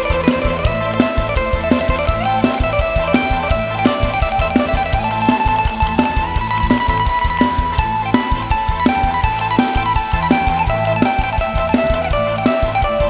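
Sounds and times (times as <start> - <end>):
bass guitar: 0.0 - 13.0
drum kit steady beat: 0.0 - 13.0
electric guitar: 0.0 - 13.0
lead line holding long notes: 0.0 - 13.0
live band playing: 0.0 - 13.0.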